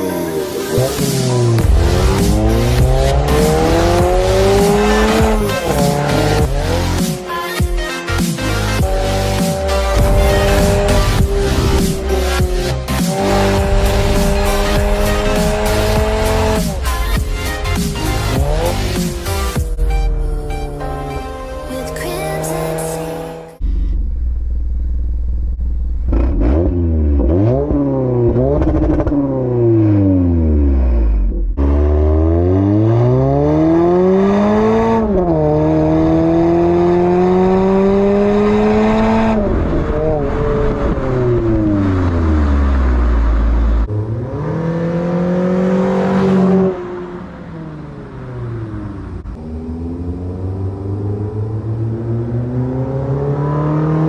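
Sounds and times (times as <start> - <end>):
car engine revving: 0.5 - 54.0.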